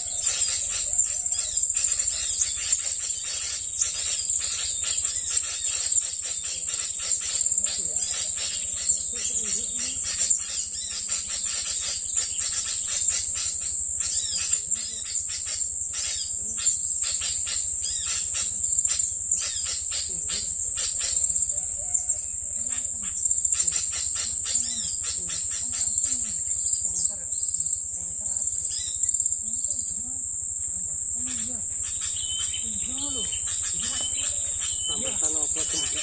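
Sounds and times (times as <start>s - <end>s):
high-pitched insect-like buzz: 0.0s - 36.0s
small birds chirping: 0.0s - 36.0s.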